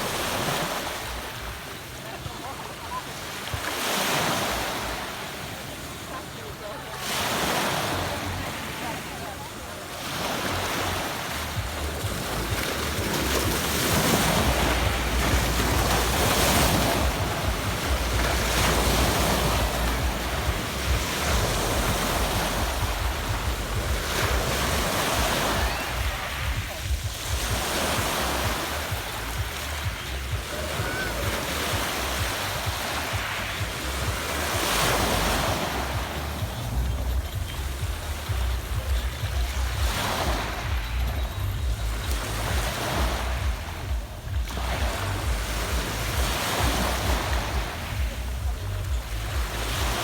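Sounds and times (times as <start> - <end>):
waves on a pebble beach: 0.0 - 50.0
wind rumbling on microphone: 8.0 - 50.0.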